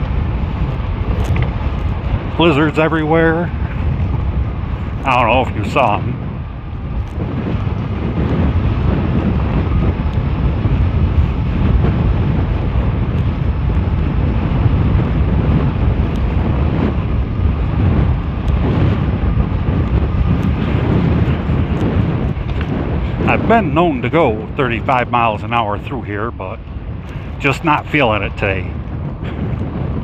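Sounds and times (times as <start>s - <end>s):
tires rumbling on dirt road: 0.0s - 30.0s
wind rushing over microphone: 0.0s - 30.0s.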